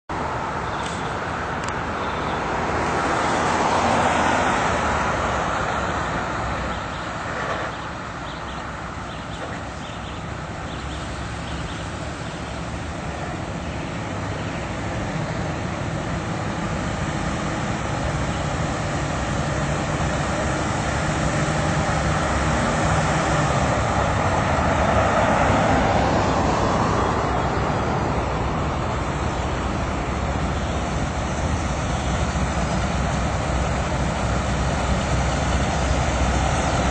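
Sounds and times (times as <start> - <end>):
tractors driving past: 0.1 - 36.9.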